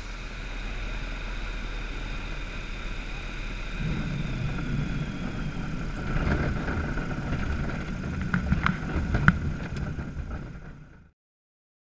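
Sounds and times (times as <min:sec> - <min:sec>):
engine and propeller drone: 0:00.0 - 0:11.1
low rumble: 0:00.0 - 0:11.1
wind noise: 0:00.0 - 0:11.1.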